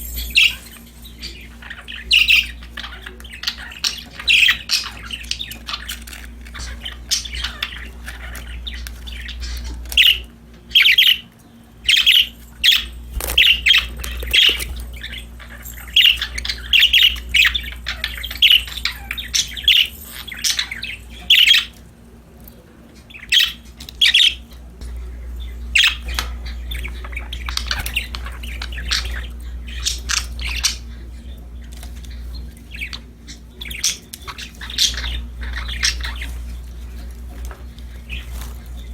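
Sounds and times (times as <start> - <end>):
budgerigars chirping and squawking: 0.0 - 21.9, 22.6 - 38.9
steady low hum: 0.0 - 38.9.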